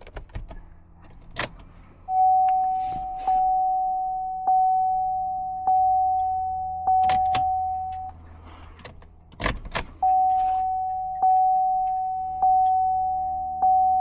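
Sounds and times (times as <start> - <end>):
car warning chime dinging: 1.4 - 9.0, 9.6 - 14.0.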